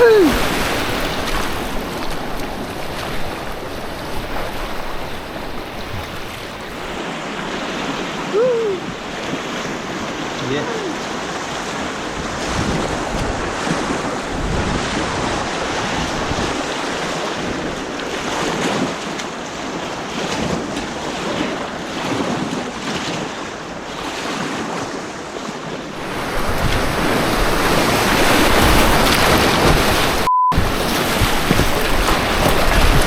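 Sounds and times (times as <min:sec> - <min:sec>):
rushing white water: 0:00.0 - 0:33.0.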